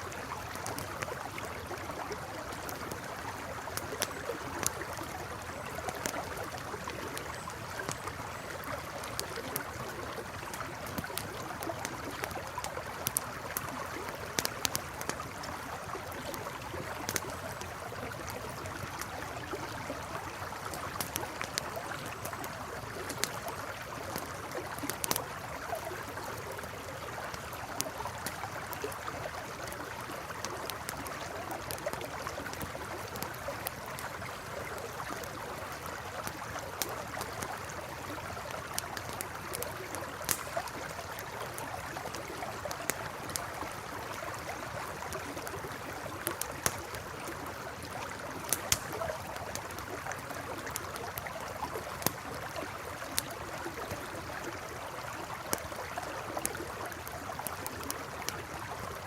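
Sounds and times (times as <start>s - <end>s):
campfire crackling: 0.0s - 59.0s
stream flowing: 0.0s - 59.0s.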